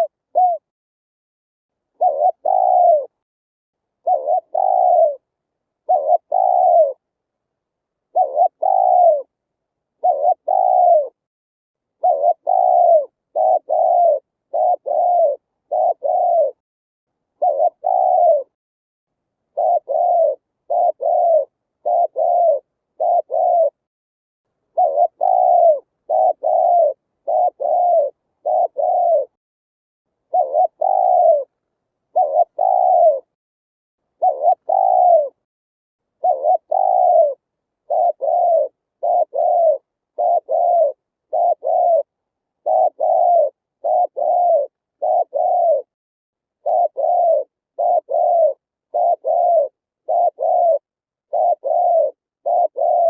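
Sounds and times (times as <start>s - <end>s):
dove cooing: 0.0s - 0.7s, 2.0s - 3.2s, 4.0s - 7.1s, 8.1s - 9.3s, 10.0s - 11.2s, 11.9s - 16.6s, 17.3s - 18.6s, 19.5s - 23.9s, 24.7s - 29.4s, 30.2s - 33.4s, 34.2s - 35.4s, 36.2s - 46.0s, 46.6s - 53.0s.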